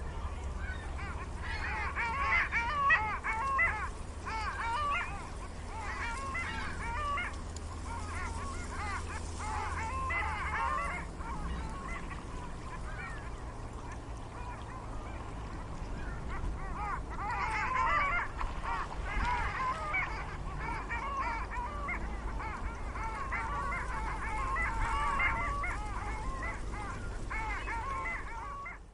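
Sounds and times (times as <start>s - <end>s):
ducks quacking: 0.0s - 28.9s.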